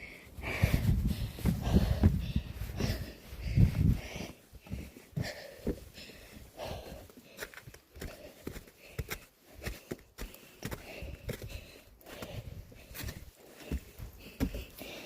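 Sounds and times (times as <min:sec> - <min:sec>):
person breathing hard: 0:00.0 - 0:15.0
footsteps climbing stairs: 0:00.7 - 0:03.1, 0:03.8 - 0:15.0.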